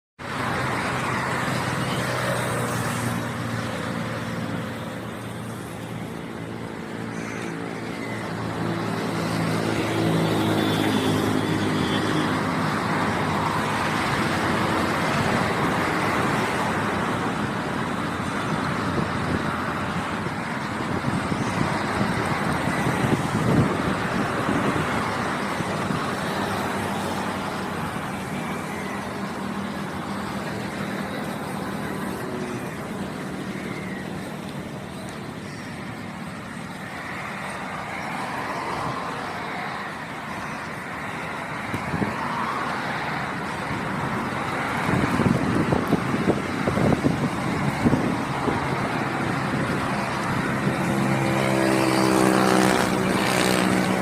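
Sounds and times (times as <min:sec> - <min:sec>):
road noise: 0:00.2 - 0:54.0.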